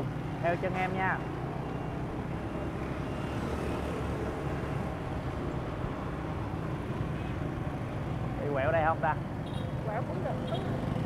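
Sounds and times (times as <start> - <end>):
passing motorbike traffic hum: 0.0 - 11.0.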